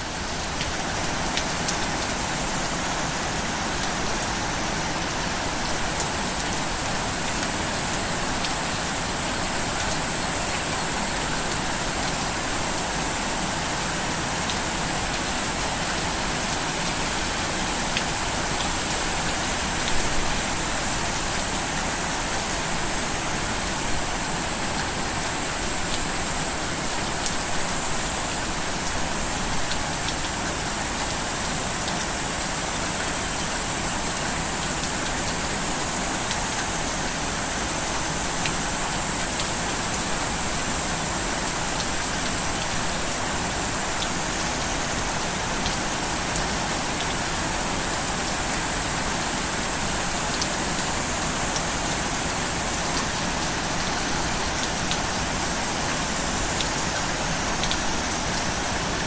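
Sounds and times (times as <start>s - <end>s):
rain pattering on hard surfaces: 0.1s - 59.0s.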